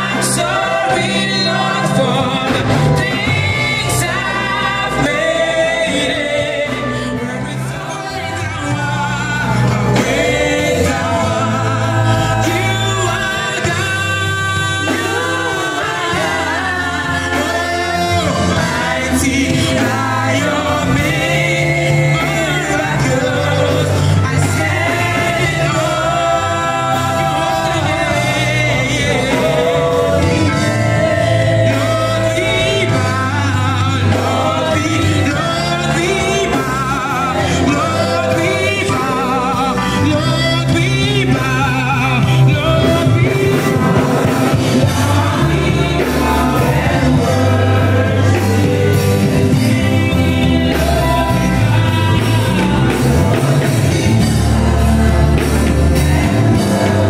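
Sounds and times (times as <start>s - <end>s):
band with keyboard: 0.0s - 57.0s
singers singing together: 0.0s - 57.0s.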